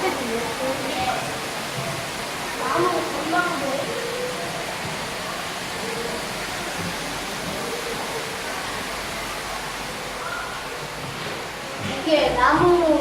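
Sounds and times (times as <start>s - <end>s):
faint voices: 0.0s - 13.0s.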